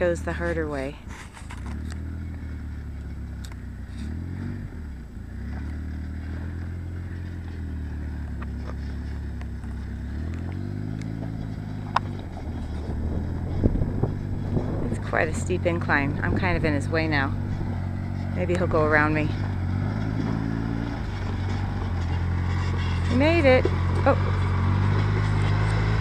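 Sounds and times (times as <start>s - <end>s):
utility vehicle engine revving: 0.0s - 26.0s.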